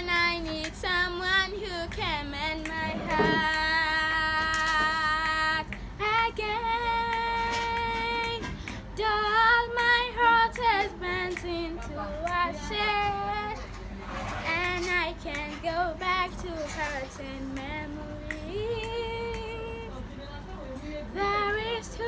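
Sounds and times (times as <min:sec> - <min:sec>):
girl singing: 0:00.0 - 0:13.6, 0:14.5 - 0:20.0, 0:21.1 - 0:22.0.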